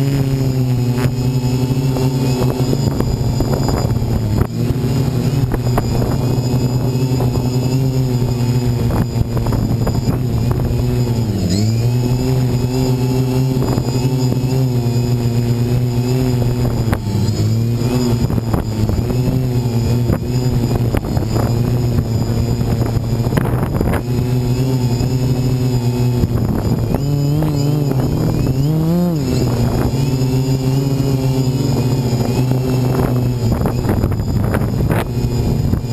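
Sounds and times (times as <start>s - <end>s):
quadcopter propellers buzzing: 0.0s - 35.9s
wind buffeting microphone: 0.0s - 35.9s.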